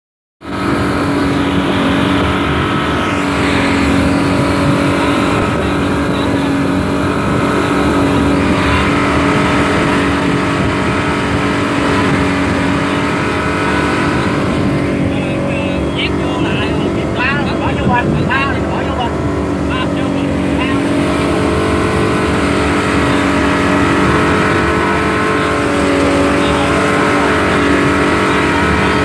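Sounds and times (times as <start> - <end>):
outboard motors droning: 0.4 - 29.0
rushing wake water: 0.4 - 29.0
wind: 0.4 - 29.0.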